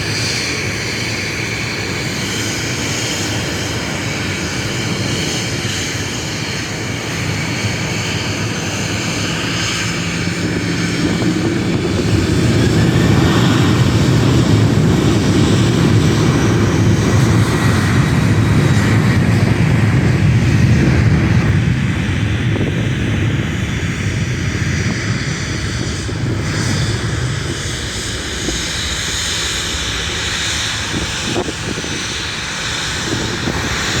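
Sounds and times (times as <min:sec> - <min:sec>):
jet engines rumbling: 0:00.0 - 0:34.0.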